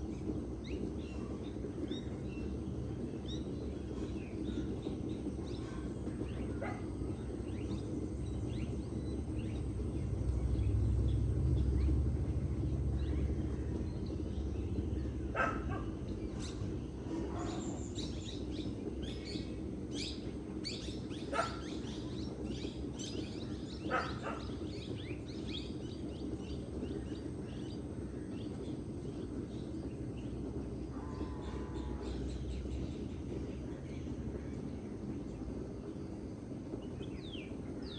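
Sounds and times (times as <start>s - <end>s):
songbirds chirping and trilling: 0.0s - 37.9s.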